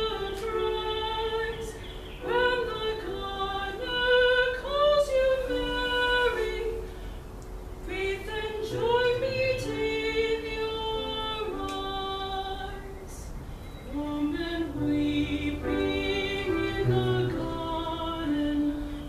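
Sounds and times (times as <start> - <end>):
piano accompaniment: 0.0 - 19.0
woman singing a hymn: 0.0 - 19.0.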